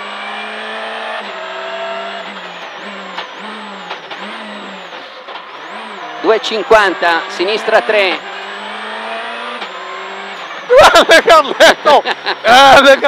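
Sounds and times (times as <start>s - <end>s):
rally car engine: 0.0s - 13.0s.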